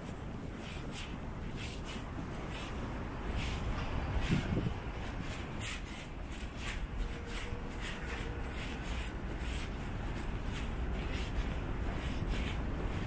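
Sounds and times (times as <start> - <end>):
footsteps on asphalt: 0.0 - 13.0.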